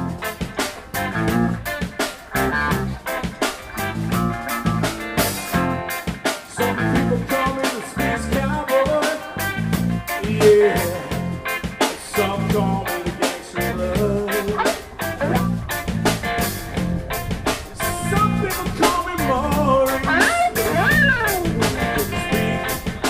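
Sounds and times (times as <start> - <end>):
bass guitar: 0.0 - 23.0
drum kit steady beat: 0.0 - 23.0
electric guitar: 0.0 - 23.0.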